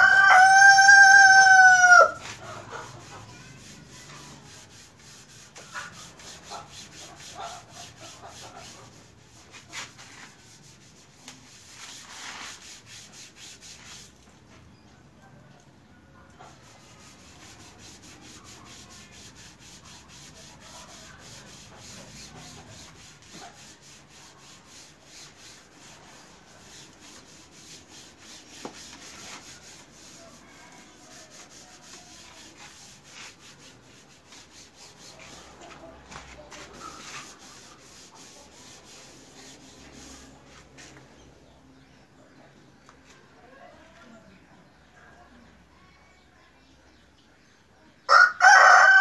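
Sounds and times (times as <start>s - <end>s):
hand rubbing painted metal: 0.0s - 14.5s, 16.3s - 41.3s.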